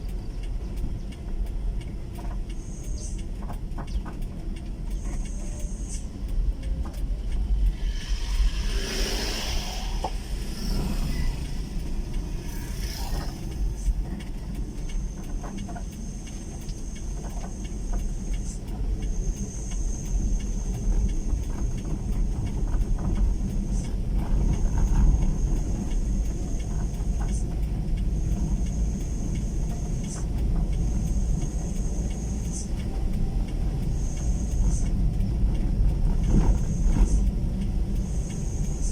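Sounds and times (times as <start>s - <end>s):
faint clicks: 0.0s - 38.9s
motorcycle engine rumble: 0.0s - 38.9s
wind: 0.0s - 38.9s.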